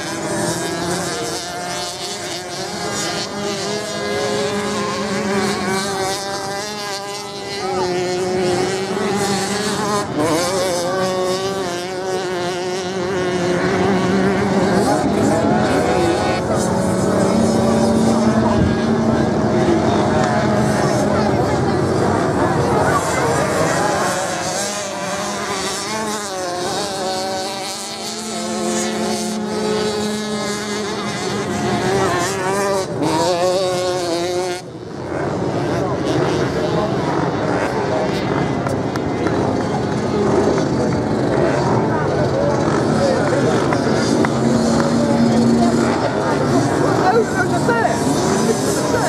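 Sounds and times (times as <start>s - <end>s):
motorcycle engines racing: 0.0s - 49.0s.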